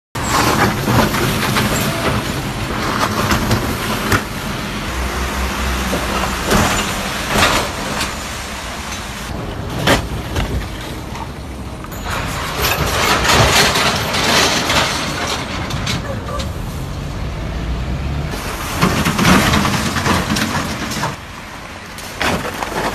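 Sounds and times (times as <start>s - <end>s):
wheels banging into pothole: 0.2s - 4.9s, 5.6s - 16.9s, 18.3s - 22.9s
engine rumble: 0.2s - 22.9s
tyre noise on wet road: 0.2s - 22.9s.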